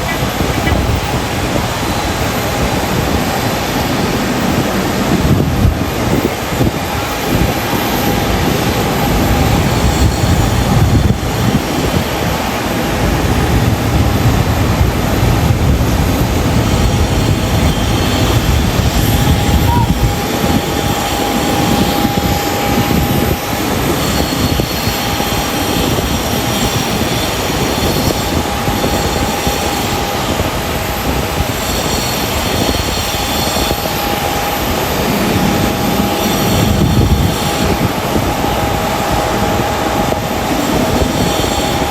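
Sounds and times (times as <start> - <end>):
jet engines roaring with high whine: 0.0 - 41.9.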